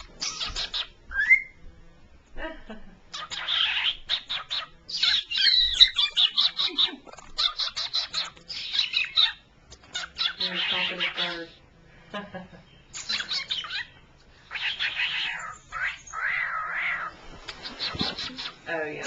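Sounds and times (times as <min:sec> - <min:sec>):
cockatiel chattering: 0:00.0 - 0:01.5, 0:03.1 - 0:11.6, 0:12.9 - 0:18.7.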